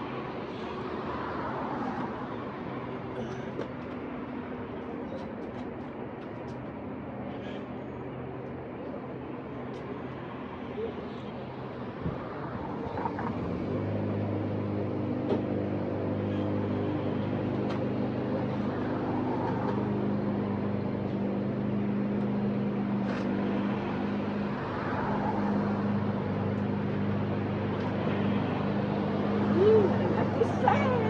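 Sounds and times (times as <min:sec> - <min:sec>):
engine running with low hum: 0:00.0 - 0:31.0.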